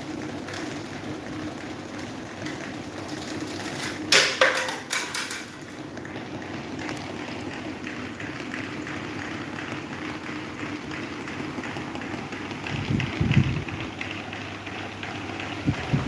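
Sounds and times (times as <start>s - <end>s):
electric fan humming: 0.0s - 16.0s.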